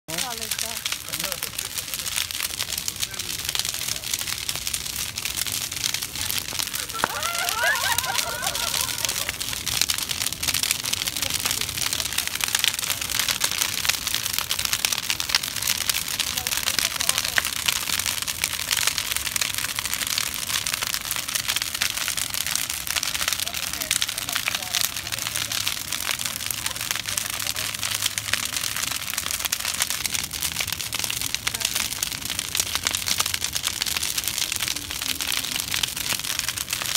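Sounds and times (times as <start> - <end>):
bonfire crackling and popping: 0.1 - 36.9
rush of flames: 0.1 - 36.9.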